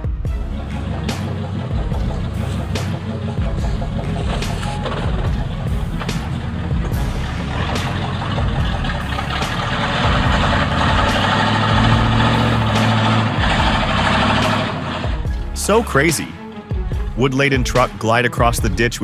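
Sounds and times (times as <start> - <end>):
truck engine running under load: 0.3 - 17.2.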